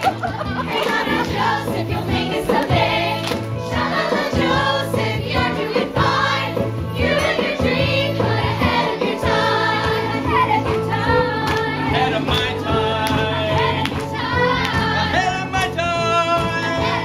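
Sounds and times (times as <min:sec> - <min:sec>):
upbeat instrumental accompaniment: 0:00.0 - 0:17.0
ensemble singing in chorus: 0:00.5 - 0:17.0.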